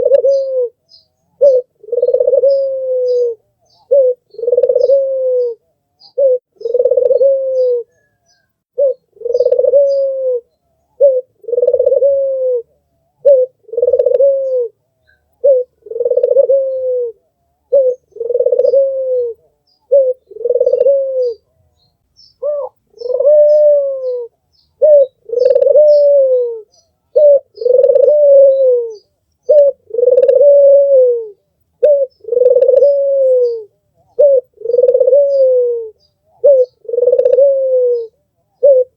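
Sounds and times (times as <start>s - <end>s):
dove cooing: 0.0s - 21.6s, 22.4s - 38.9s.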